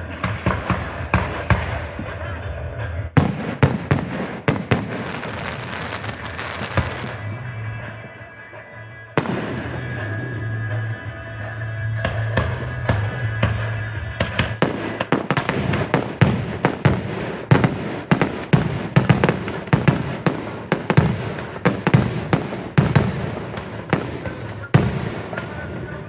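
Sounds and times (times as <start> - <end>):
fireworks bangs and crackles: 0.0 - 2.2, 3.1 - 8.2, 9.2 - 10.9, 12.0 - 26.0.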